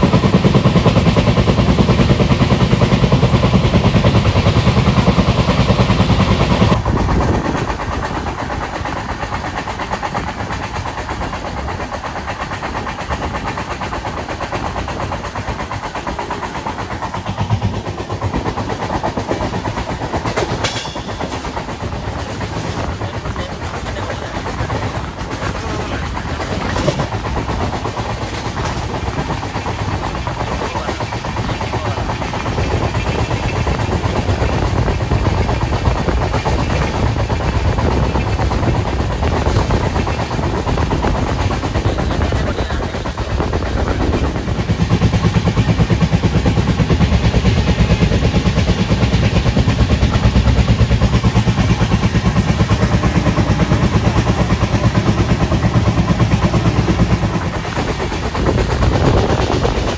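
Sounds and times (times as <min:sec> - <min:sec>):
train running: 0:00.0 - 0:59.9.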